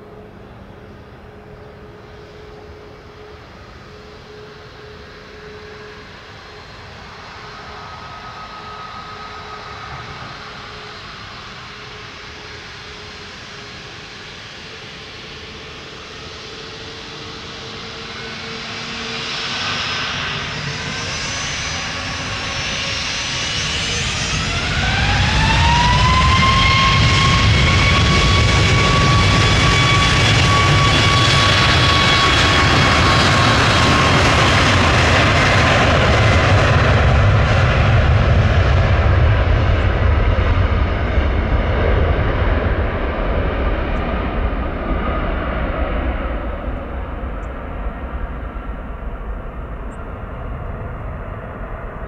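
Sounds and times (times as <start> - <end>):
jet engine roar: 0.0 - 52.0
jet engine whine: 0.0 - 52.0.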